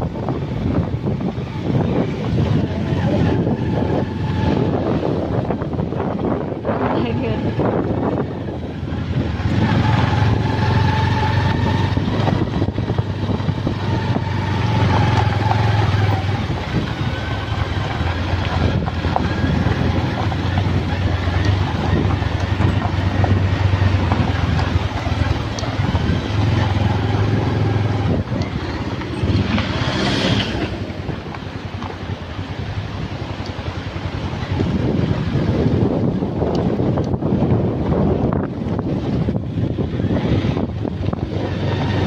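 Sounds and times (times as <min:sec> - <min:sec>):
motorcycle engine drone: 0:00.0 - 0:42.0
wind and road rushing noise: 0:00.0 - 0:42.0.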